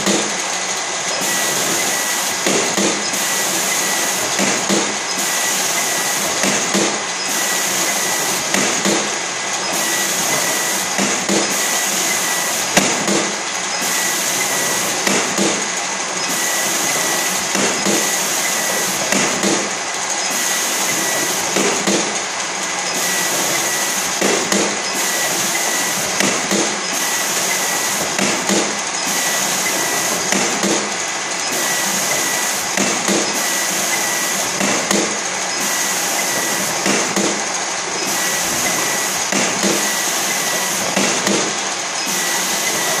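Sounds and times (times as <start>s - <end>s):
knocks of boxes on conveyor: 0.0s - 43.0s
machine hum and hiss: 0.0s - 43.0s.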